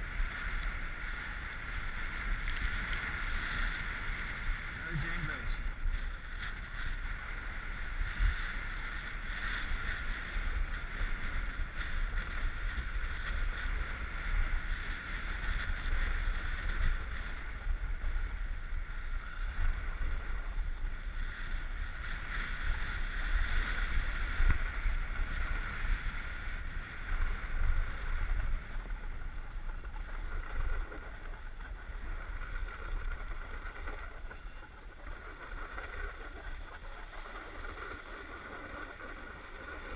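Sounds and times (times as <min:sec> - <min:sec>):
snowboard scraping packed snow: 0:00.0 - 0:39.9.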